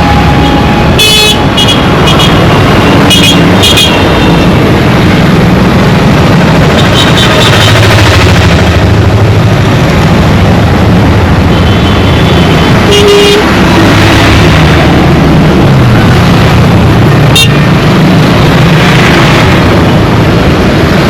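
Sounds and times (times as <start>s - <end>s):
traffic engine drone: 0.0s - 21.0s.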